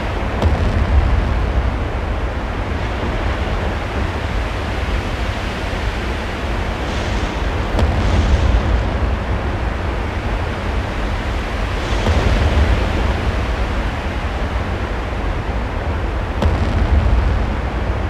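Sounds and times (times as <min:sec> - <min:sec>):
deep steady rumble: 0:00.0 - 0:18.0
loud rushing noise: 0:00.0 - 0:18.0.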